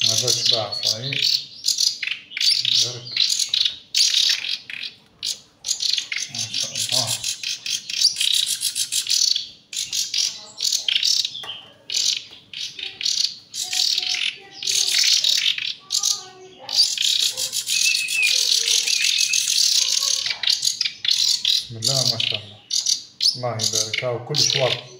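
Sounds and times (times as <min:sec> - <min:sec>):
chicks raspy begging calls: 0:00.0 - 0:24.9.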